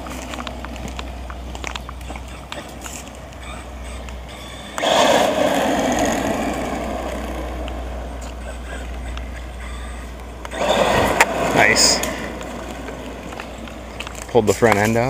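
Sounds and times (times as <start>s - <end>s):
rc truck electric motor rush: 1.6s - 14.3s.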